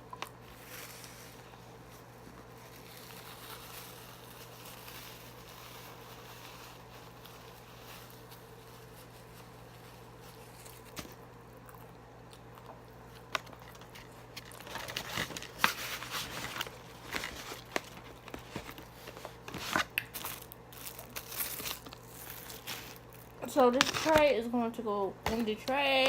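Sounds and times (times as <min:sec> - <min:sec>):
paper packaging crinkling: 0:00.0 - 0:11.7, 0:13.0 - 0:24.4
faint steady hum: 0:00.0 - 0:26.0
fried chicken crunching: 0:02.4 - 0:24.2.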